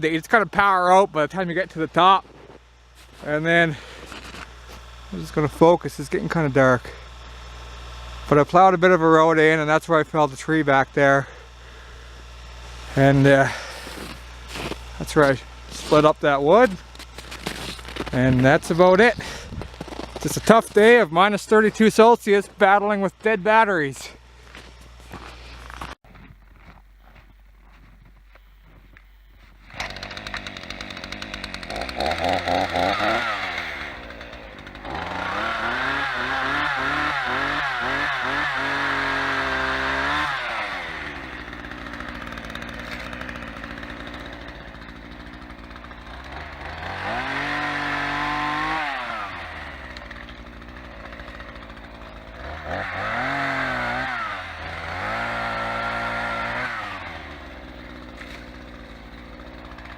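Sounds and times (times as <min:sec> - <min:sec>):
chainsaw revving and idling: 0:00.3 - 0:26.0, 0:29.6 - 0:59.9.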